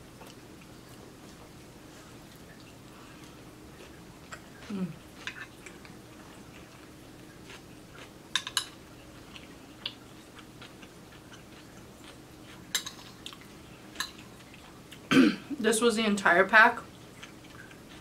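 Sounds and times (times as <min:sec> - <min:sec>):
soft chewing: 0:00.1 - 0:15.1, 0:16.8 - 0:18.0.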